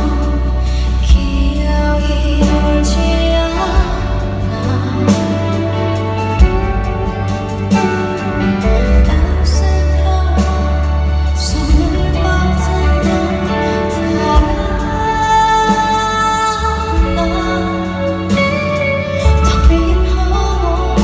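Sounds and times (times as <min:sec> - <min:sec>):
drums: 0:00.0 - 0:21.0
heavy bass: 0:00.0 - 0:21.0
live band playing pop-rock ballad: 0:00.0 - 0:21.0
person singing: 0:00.0 - 0:21.0.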